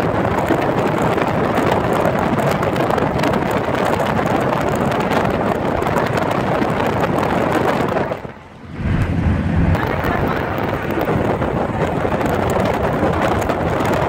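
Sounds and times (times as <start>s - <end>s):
car road noise: 0.0s - 14.0s
wind rushing on microphone: 0.0s - 14.0s.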